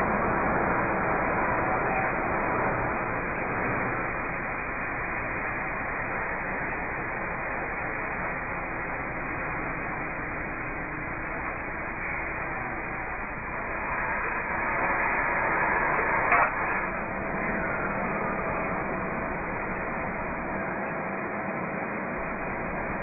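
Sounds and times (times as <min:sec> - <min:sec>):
steady hiss-like noise: 0:00.0 - 0:23.0.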